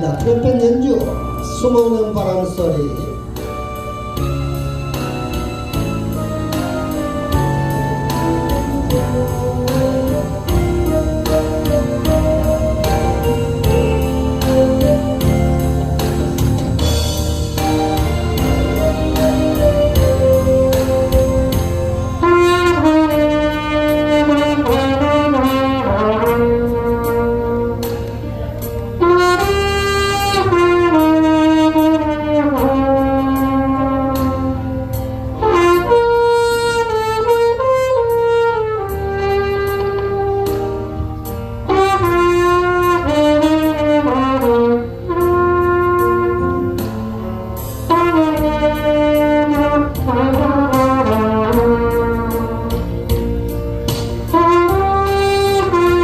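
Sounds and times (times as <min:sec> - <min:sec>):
backing track with bass: 0:00.0 - 0:56.0
solo trumpet melody: 0:00.0 - 0:56.0.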